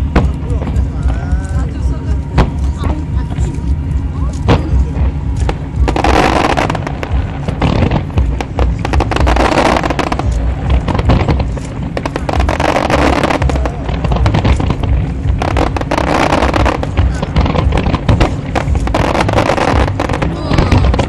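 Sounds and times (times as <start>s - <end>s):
fireworks cracks and pops: 0.0s - 21.0s
fireworks deep booms: 0.0s - 21.0s.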